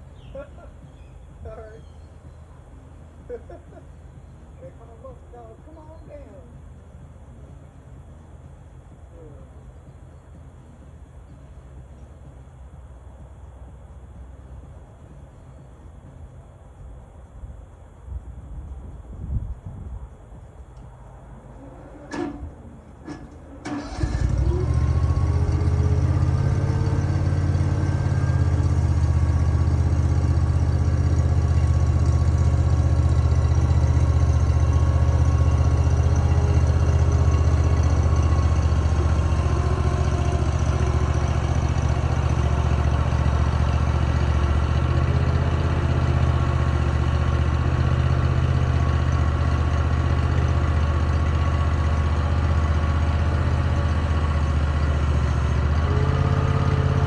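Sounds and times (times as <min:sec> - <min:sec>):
large engine idling: 0:00.0 - 0:18.0, 0:20.3 - 0:57.0.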